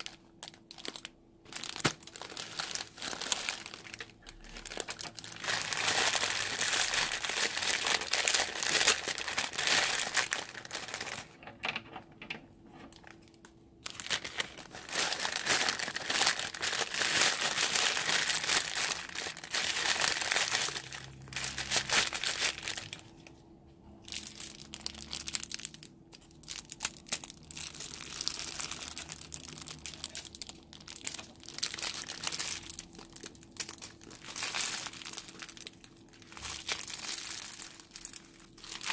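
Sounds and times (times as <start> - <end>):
plastic piping bags crinkling: 0.0 - 11.4, 12.9 - 23.3, 24.0 - 38.9.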